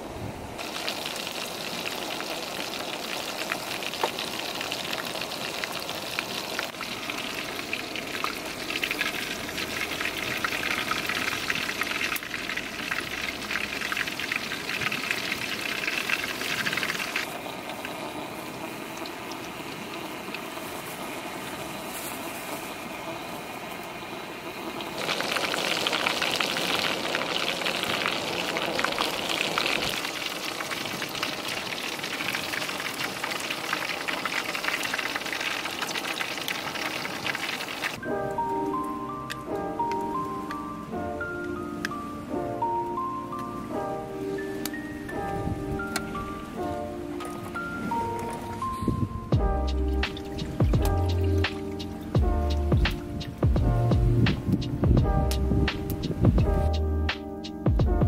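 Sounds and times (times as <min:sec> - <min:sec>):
chicken deep-frying in hot oil: 0:00.6 - 0:40.4, 0:44.2 - 0:56.4.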